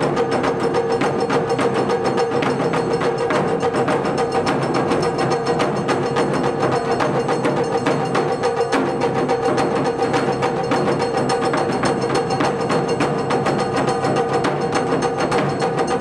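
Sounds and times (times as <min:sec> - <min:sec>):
taiko drumming: 0:00.0 - 0:16.0.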